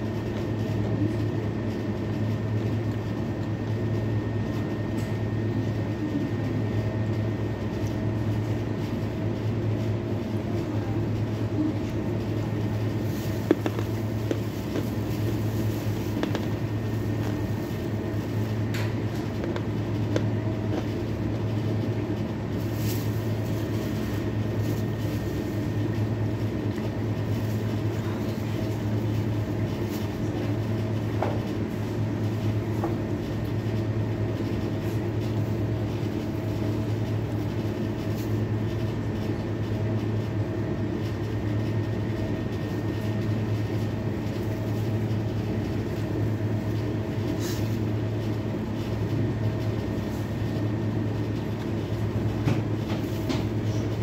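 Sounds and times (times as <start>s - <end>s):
extractor hood fan drone: 0.0s - 54.0s.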